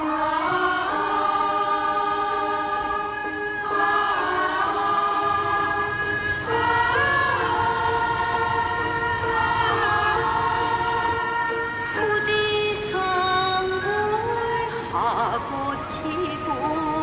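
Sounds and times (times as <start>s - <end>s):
choir singing long held notes: 0.0s - 17.0s.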